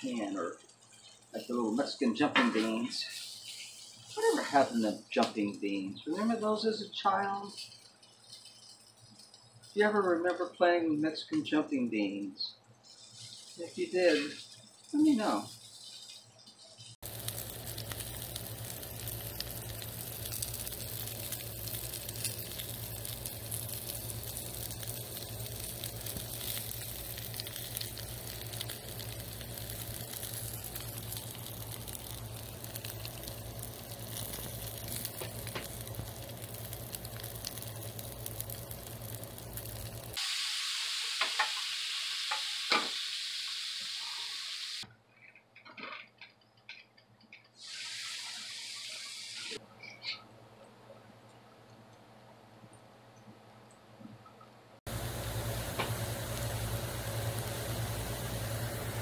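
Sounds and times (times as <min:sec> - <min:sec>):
vegetables sizzling on a griddle: 0:00.1 - 0:05.3, 0:06.1 - 0:10.2, 0:12.8 - 0:44.8, 0:47.6 - 0:49.6, 0:54.9 - 0:59.0.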